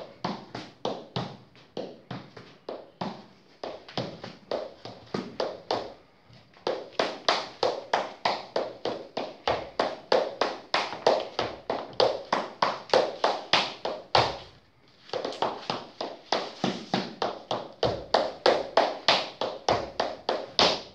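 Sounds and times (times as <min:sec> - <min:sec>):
shoes tapping on hard floor: 0:00.0 - 0:20.9.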